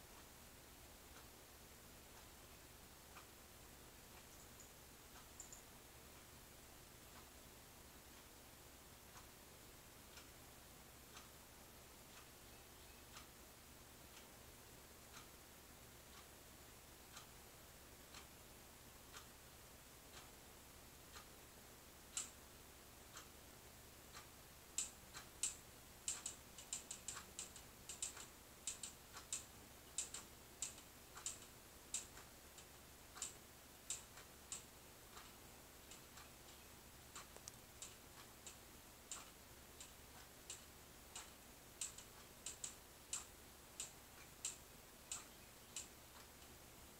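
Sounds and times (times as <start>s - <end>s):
low room hum: 0.0s - 46.9s.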